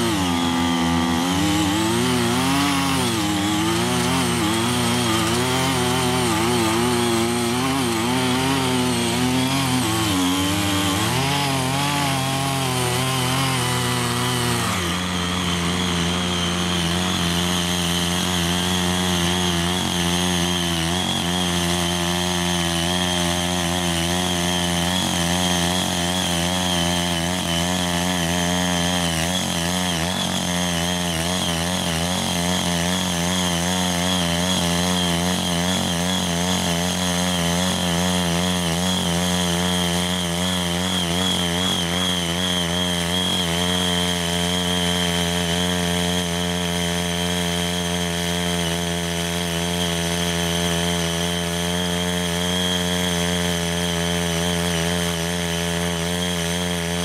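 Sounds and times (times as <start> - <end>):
small tiller engine running: 0.0 - 57.0
tines tilling soil: 0.0 - 57.0.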